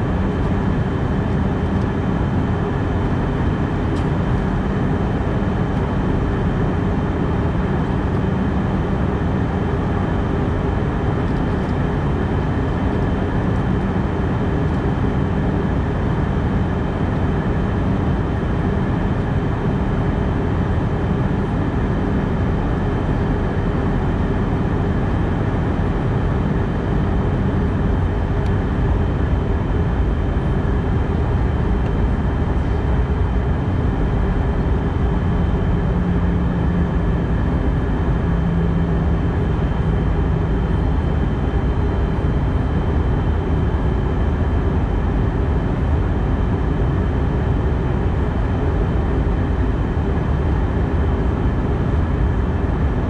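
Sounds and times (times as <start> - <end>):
airplane cabin airflow and engine drone: 0.0 - 53.0.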